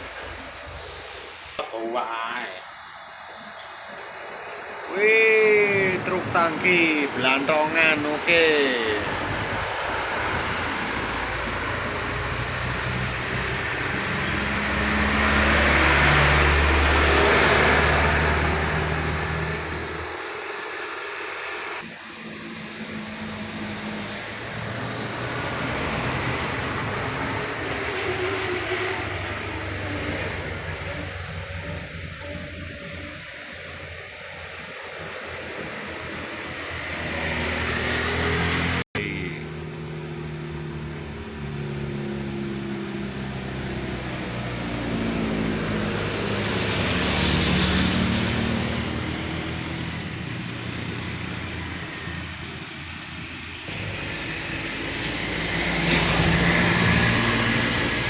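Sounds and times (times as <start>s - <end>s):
diesel truck engine droning: 0.0s - 58.0s
tyre and road noise: 3.3s - 21.8s, 23.3s - 33.2s, 35.0s - 58.0s.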